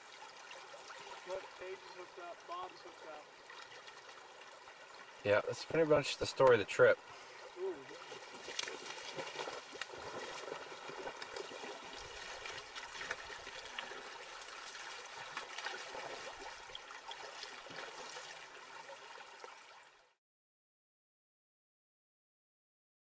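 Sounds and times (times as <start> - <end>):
river water trickling: 0.0 - 20.2.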